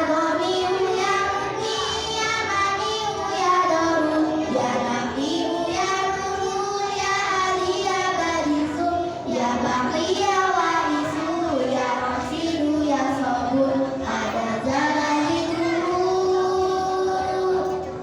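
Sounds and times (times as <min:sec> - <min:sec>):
children singing: 0:00.0 - 0:18.0.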